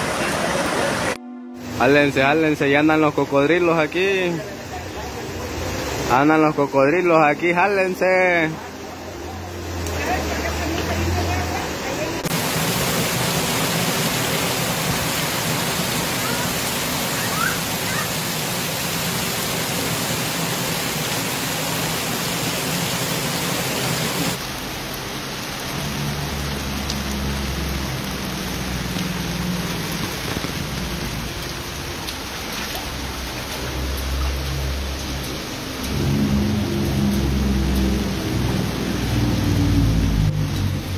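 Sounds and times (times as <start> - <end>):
flowing floodwater: 0.0 - 40.9
heavy rain on vehicles and foliage: 0.0 - 40.9.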